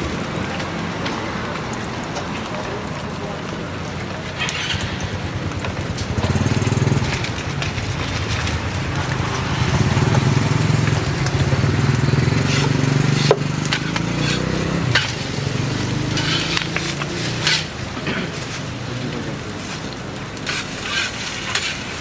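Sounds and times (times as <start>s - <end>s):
griddle sizzling: 0.0s - 22.0s.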